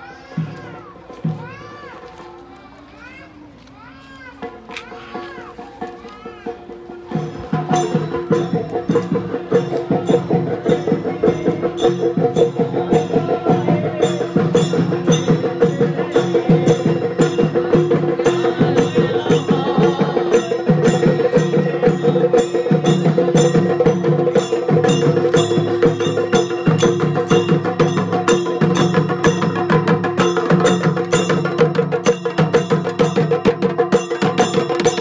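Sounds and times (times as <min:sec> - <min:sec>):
drums beating: 0:00.0 - 0:35.0.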